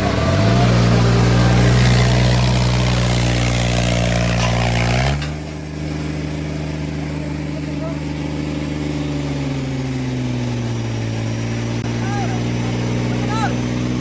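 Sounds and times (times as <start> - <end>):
tractor diesel engine revving: 0.0 - 14.0.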